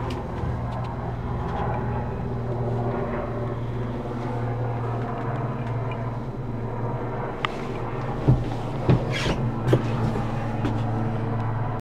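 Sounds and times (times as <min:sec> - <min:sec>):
low mechanical hum: 0:00.0 - 0:11.8
low rumble: 0:00.0 - 0:11.8.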